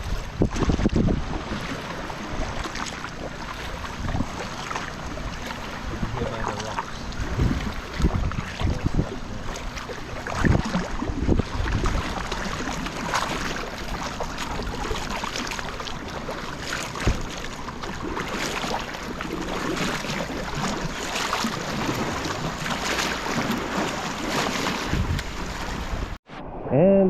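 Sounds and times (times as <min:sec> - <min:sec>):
wind buffeting microphone: 0:00.0 - 0:02.6, 0:03.7 - 0:15.2, 0:16.9 - 0:26.7
sea water splashing: 0:00.0 - 0:26.3.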